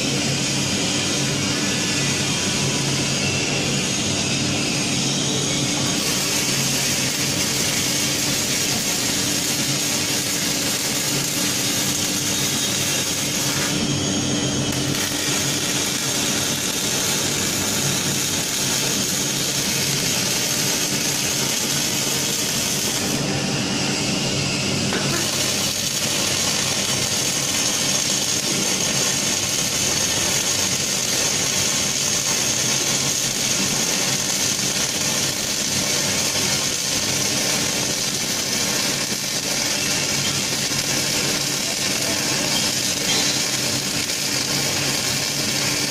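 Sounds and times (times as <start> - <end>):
constant machine hum: 0.0 - 45.9
welding arc hissing: 0.0 - 45.9.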